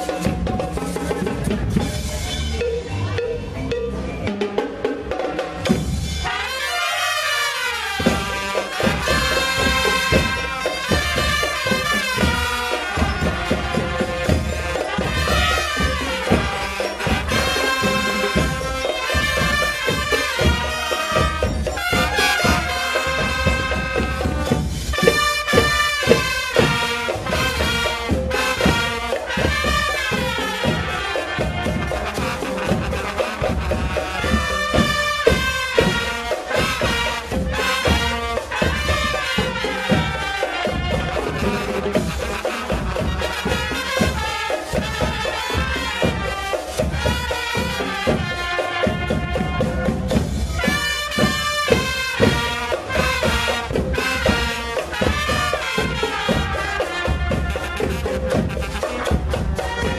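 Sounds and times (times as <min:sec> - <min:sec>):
steady drum beat: 0:00.0 - 0:59.9
brass sustained notes: 0:06.1 - 0:59.9.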